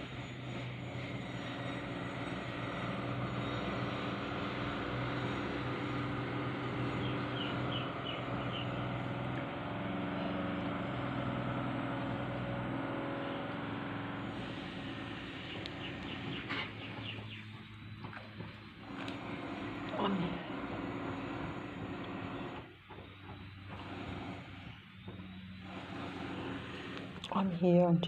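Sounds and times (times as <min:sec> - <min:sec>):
large engine droning: 0:00.0 - 0:28.0.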